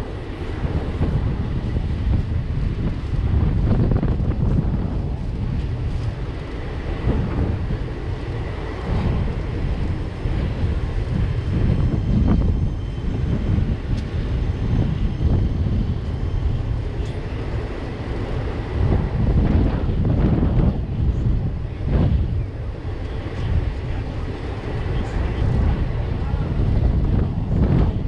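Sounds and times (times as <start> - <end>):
train wheels rumbling on rail: 0.0 - 28.0
wind buffeting microphone: 0.0 - 28.0.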